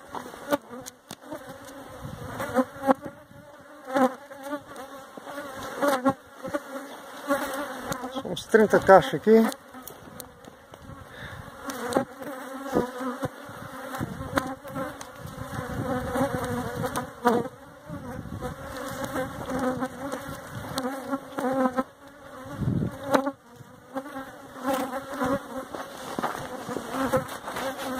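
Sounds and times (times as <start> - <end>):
bees buzzing: 0.0 - 27.9.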